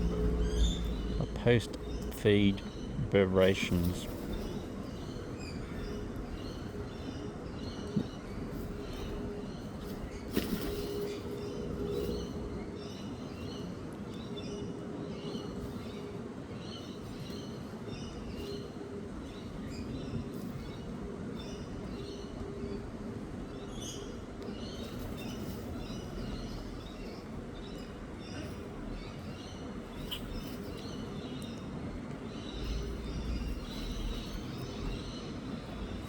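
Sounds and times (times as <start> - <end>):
birds chirping: 0.0 - 36.0
faint low hum: 0.0 - 36.0.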